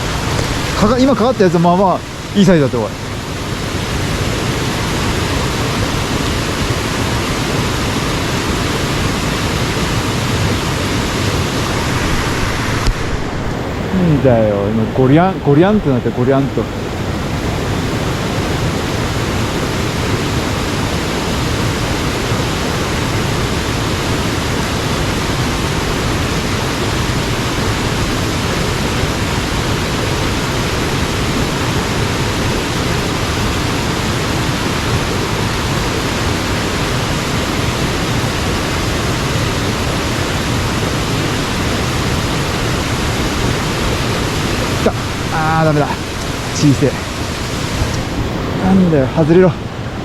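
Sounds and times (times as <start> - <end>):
fast stream water rushing: 0.0 - 50.0.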